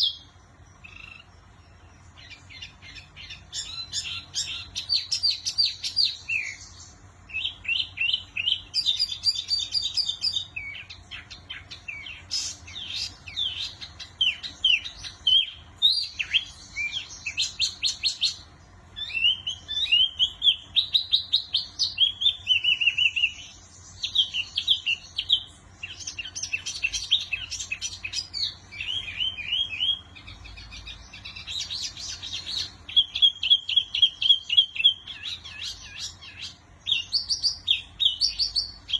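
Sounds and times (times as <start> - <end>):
songbird chirping and twittering: 0.0 - 38.9.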